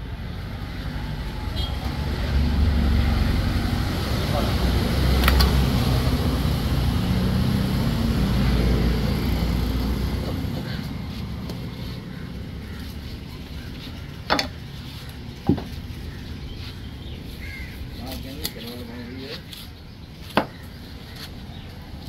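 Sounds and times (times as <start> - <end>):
motor vehicle rumbling past: 0.0 - 19.4.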